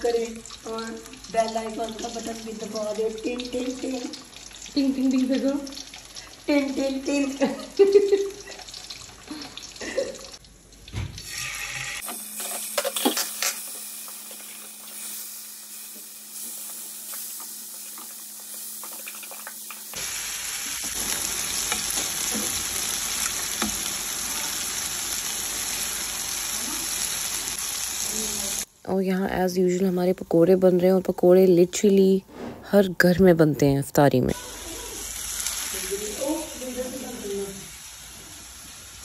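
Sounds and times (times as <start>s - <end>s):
chicken sizzling in hot oil: 0.0s - 28.7s, 34.3s - 39.0s.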